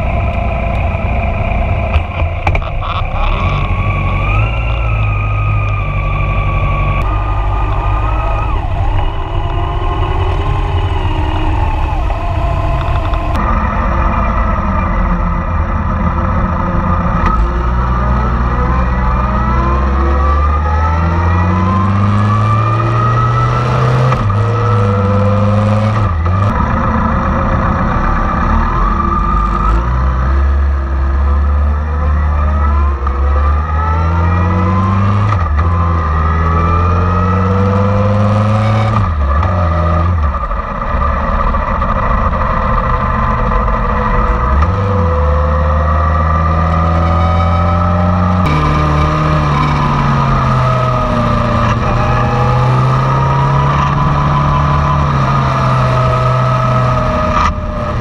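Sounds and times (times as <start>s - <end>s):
motorcycle engines running: 0.0s - 58.0s.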